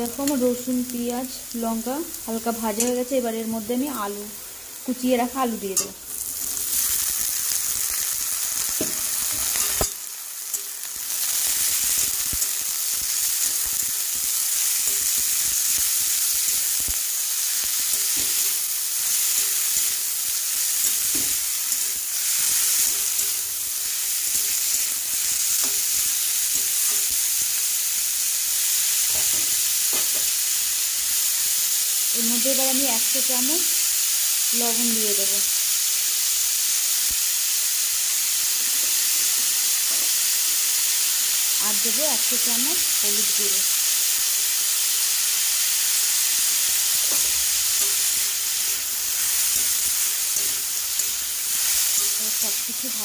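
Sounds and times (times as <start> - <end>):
potatoes sizzling in hot oil: 0.0 - 53.0.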